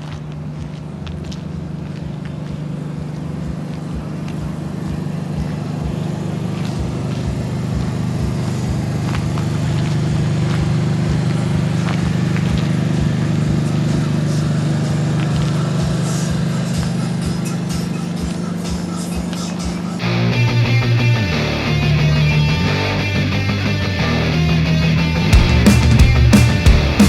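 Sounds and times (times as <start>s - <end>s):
bus engine humming: 0.2s - 27.0s.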